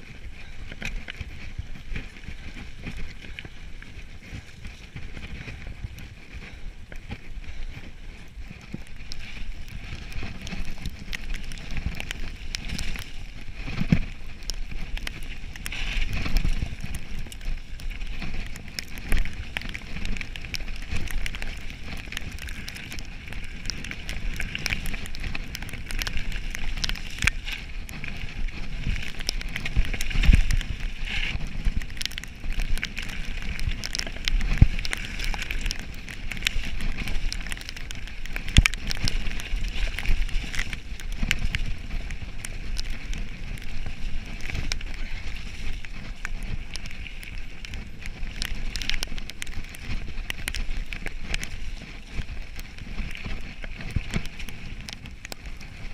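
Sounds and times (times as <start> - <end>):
bike rattling over stony trail: 0.0 - 55.9
wind thumping on microphone: 0.0 - 55.9.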